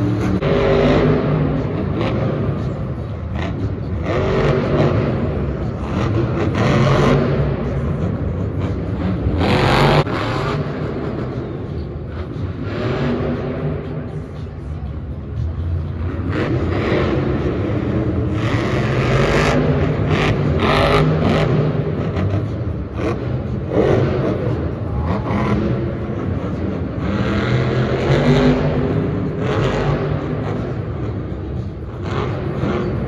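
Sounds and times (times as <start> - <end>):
truck engine revving: 0.0 - 33.0.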